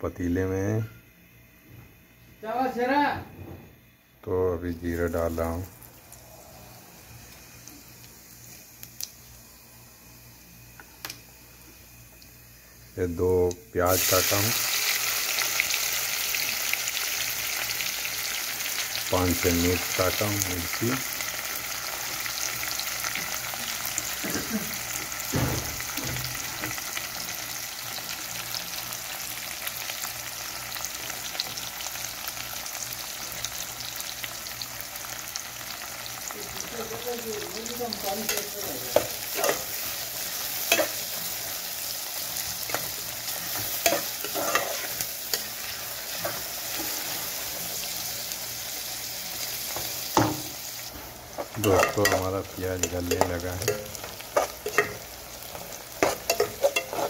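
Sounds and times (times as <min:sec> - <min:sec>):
onions sizzling in hot oil: 0:04.6 - 0:57.0.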